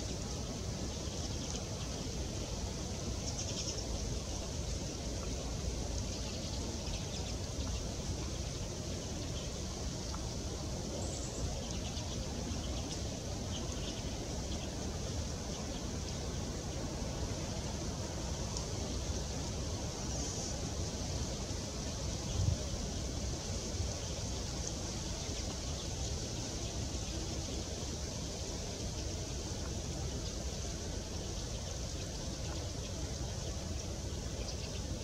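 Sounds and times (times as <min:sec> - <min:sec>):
birds chipping and twittering: 0:00.0 - 0:35.0.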